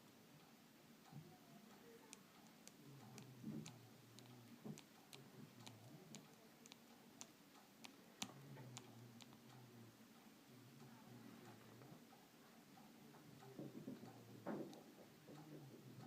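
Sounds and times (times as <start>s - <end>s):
faint ticking clicks: 0.0s - 16.0s.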